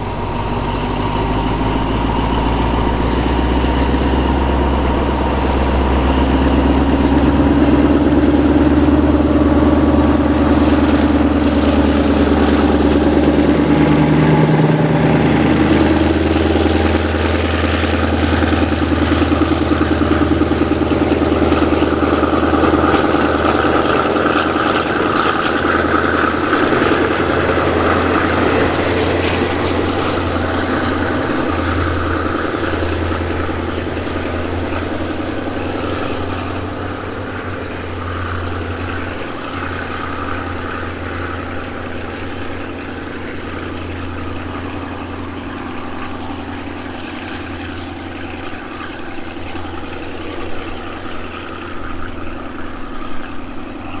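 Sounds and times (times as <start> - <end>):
coach wheels rolling over rails: 0.0 - 54.0
diesel locomotive droning: 0.0 - 54.0.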